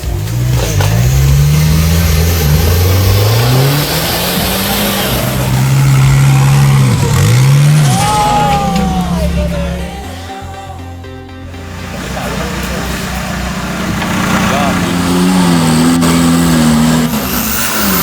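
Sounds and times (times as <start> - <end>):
engine revving hard: 0.0 - 10.1, 11.6 - 18.0.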